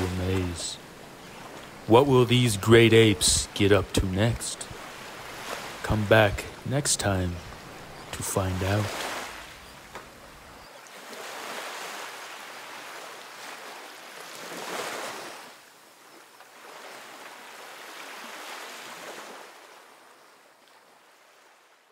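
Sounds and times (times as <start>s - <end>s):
surf washing on shore: 0.0s - 20.2s.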